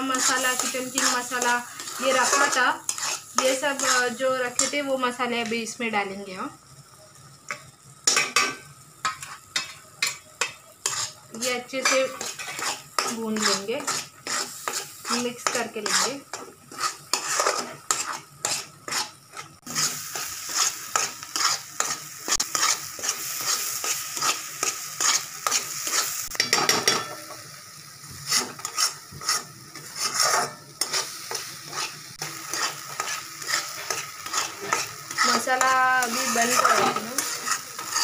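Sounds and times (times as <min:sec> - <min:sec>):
spatula scraping paste in pan: 0:00.0 - 0:04.8, 0:09.0 - 0:26.2, 0:28.2 - 0:38.0
paste sizzling in oil: 0:00.0 - 0:38.0.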